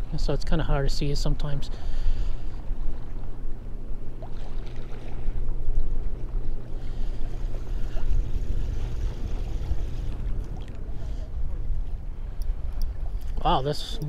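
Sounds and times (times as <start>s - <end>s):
lake waves lapping and splashing: 0.0s - 14.0s
wind rumbling on microphone: 2.1s - 14.0s.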